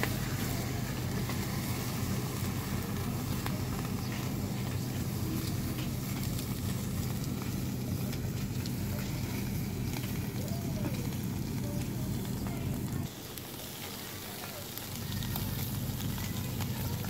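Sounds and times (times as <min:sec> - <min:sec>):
steady low hum: 0:00.0 - 0:13.7
charcoal fire crackling and sizzling: 0:00.0 - 0:17.0.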